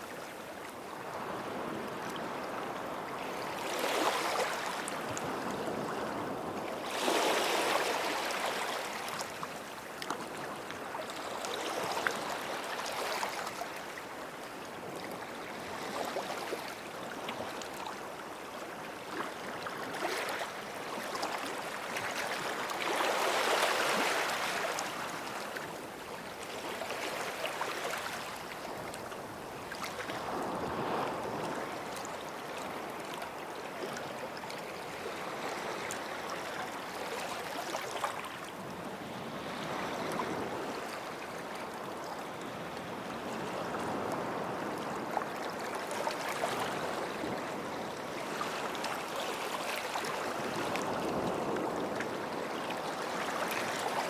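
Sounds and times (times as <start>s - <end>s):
small waves washing onto sand: 1.0s - 14.2s, 18.8s - 33.3s, 33.9s - 54.0s.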